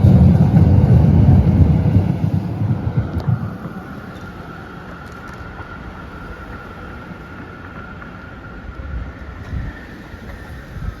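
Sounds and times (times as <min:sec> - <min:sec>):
vehicle whine and rumble: 0:00.0 - 0:11.0
wind buffeting microphone: 0:00.0 - 0:11.0.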